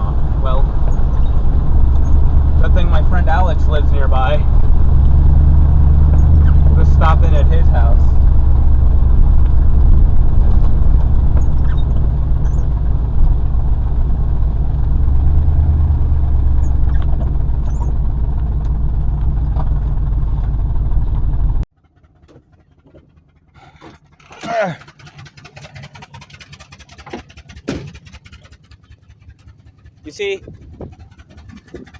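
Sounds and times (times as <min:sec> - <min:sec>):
truck engine and road noise: 0:00.0 - 0:31.9.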